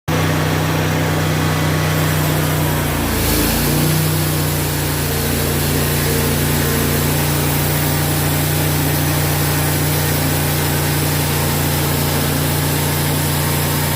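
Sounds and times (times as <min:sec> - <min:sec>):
sawmill gas engine running: 0:00.1 - 0:13.9.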